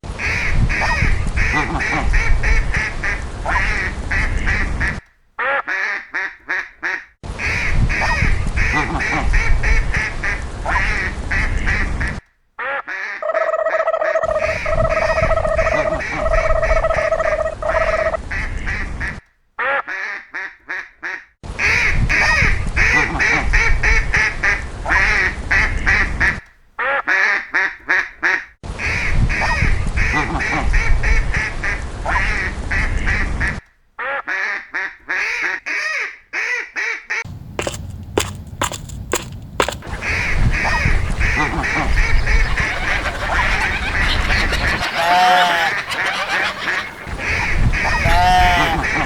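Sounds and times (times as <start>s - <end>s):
ducks quacking: 0.2s - 49.0s.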